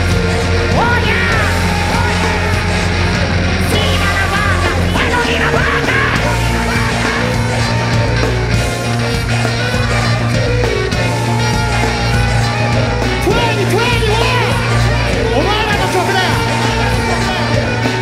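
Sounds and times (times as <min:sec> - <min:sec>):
electric guitar: 0:00.0 - 0:18.0
heavy sustained bass notes: 0:00.0 - 0:18.0
live rock band playing: 0:00.0 - 0:18.0.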